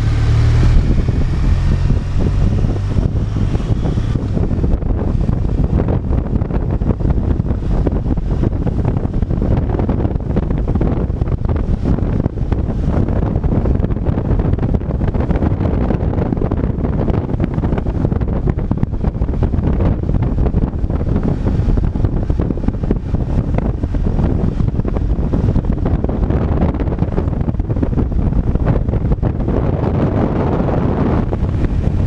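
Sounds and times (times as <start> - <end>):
motorcycle engine: 0.0 - 32.0
road noise: 0.0 - 32.0
wind buffeting microphone: 0.0 - 32.0.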